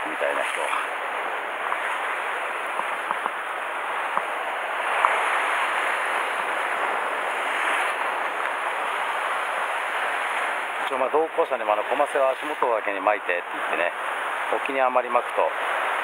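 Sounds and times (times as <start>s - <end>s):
sea surf washing against rocks: 0.0s - 16.0s.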